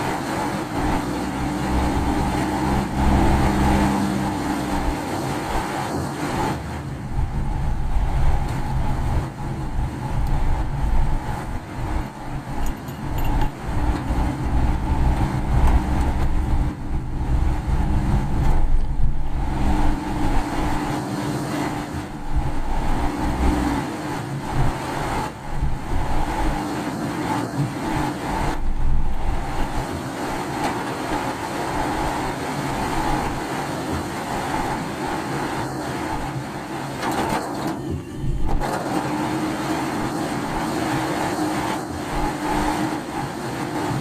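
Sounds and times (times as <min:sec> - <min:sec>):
tyres and engine rumble: 0:00.0 - 0:44.0.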